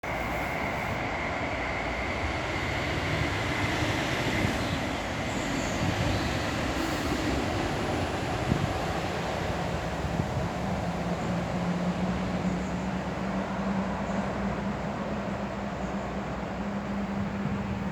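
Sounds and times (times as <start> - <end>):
diesel locomotive rumbling past: 0.0 - 17.9.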